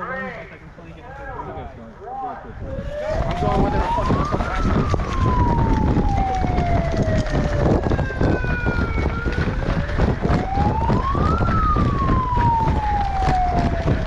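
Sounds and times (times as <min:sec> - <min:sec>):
wind on microphone: 0:02.4 - 0:14.0
wailing siren: 0:02.6 - 0:14.0.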